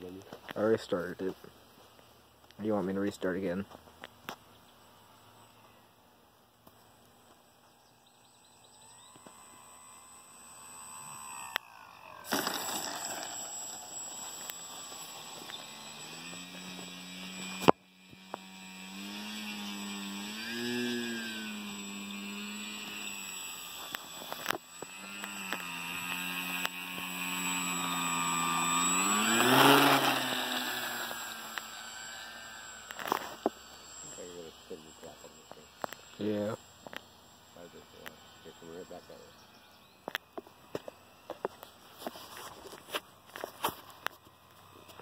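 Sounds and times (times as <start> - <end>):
model airplane motor buzzing: 6.6 - 45.0.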